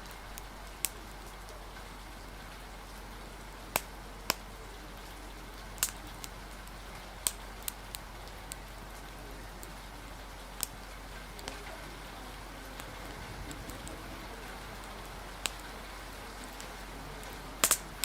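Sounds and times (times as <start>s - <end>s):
rain hissing: 0.0s - 18.0s
sharp crackles or drips: 0.0s - 18.0s.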